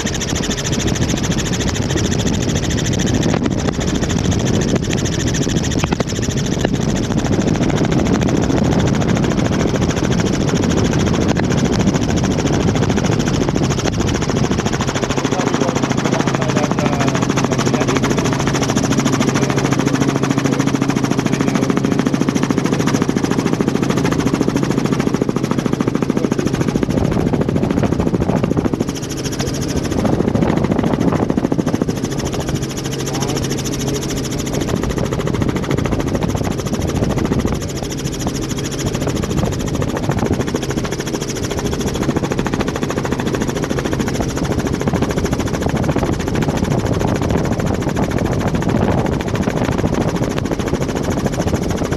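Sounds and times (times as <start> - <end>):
helicopter engine hum: 0.0 - 51.9
helicopter rotor chop: 0.0 - 51.9.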